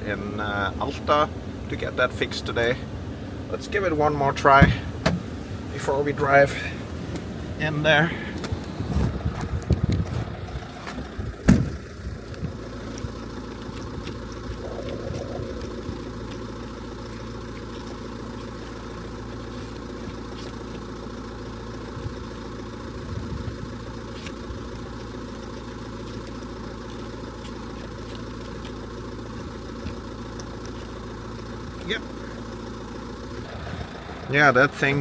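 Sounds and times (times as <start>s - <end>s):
van engine idling: 0.0s - 35.0s.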